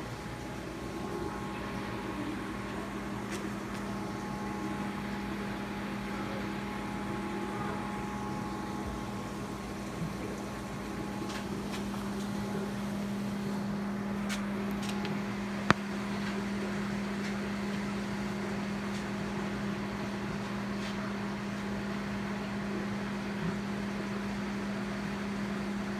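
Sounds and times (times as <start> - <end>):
aquarium pump humming: 0.0 - 25.9.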